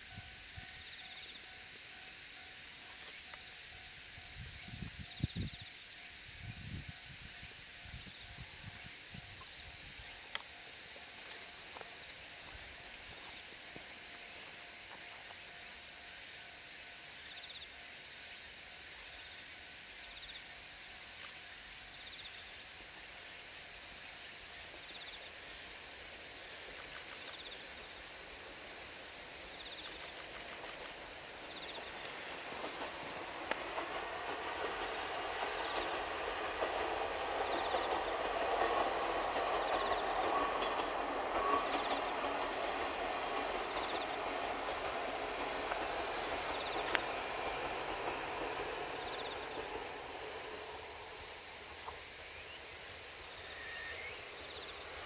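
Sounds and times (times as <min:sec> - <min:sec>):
distant diesel railcar running: 0:00.0 - 0:55.0
faint insect chirps: 0:00.0 - 0:55.0
steady hiss: 0:00.0 - 0:55.0.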